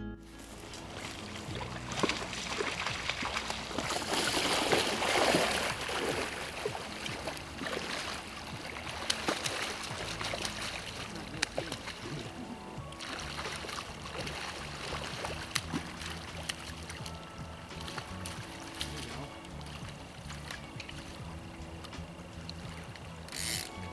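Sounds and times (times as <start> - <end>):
running river water: 0.3 - 23.9
fish splashing and thrashing: 0.5 - 23.9.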